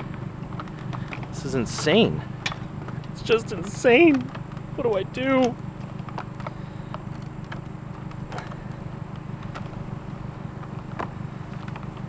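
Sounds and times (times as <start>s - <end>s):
light clicks and knocks: 0.0s - 9.8s
low engine hum: 0.0s - 12.0s.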